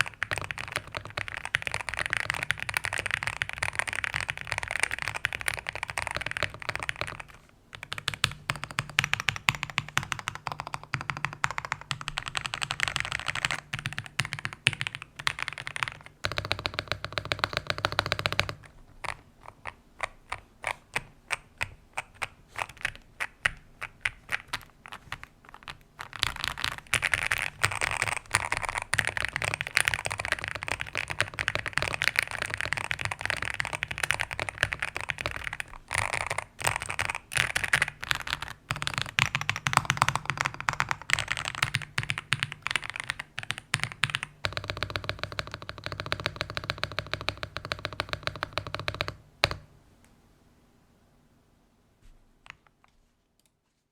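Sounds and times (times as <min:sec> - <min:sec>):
mechanical keyboard typing: 0:00.0 - 0:49.6.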